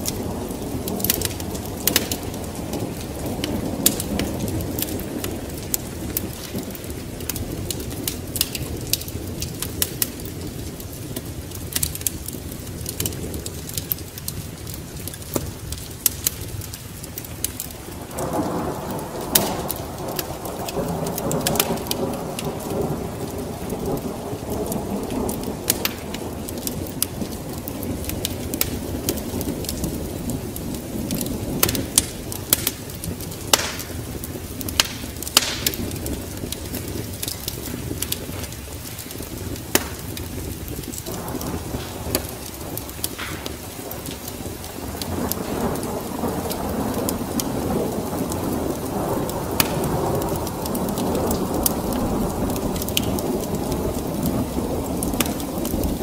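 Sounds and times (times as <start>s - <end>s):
steady rain: 0.0s - 56.0s
thunder rumbling: 0.0s - 56.0s
wood fire crackling and popping: 0.0s - 56.0s.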